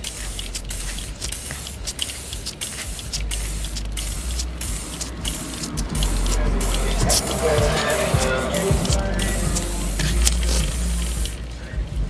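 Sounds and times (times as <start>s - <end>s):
aerosol can spraying: 0.0s - 11.6s
low hum: 0.0s - 12.0s.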